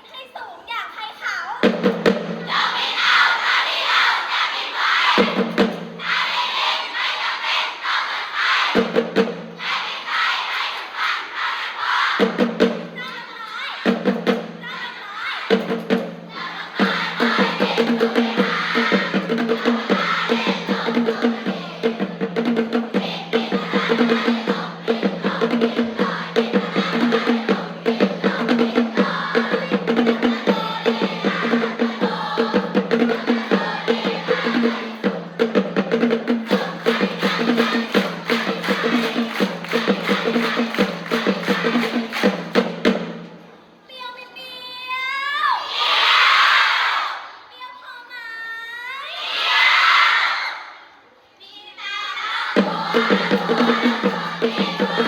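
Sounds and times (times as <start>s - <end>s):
cheer music with drum beat: 1.5s - 43.4s, 52.6s - 55.0s.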